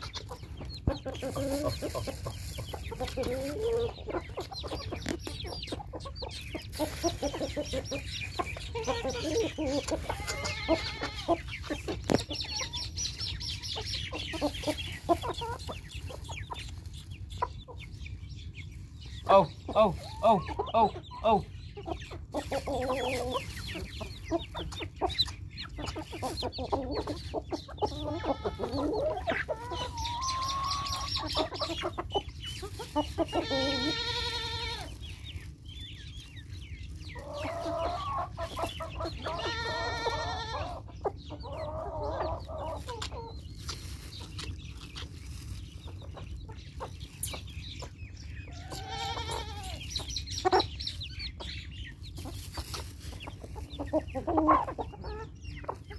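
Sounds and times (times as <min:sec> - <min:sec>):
beaks pecking grain: 0:00.0 - 0:55.9
drawn-out chicken calls: 0:00.0 - 0:55.9
hens clucking: 0:00.0 - 0:55.9.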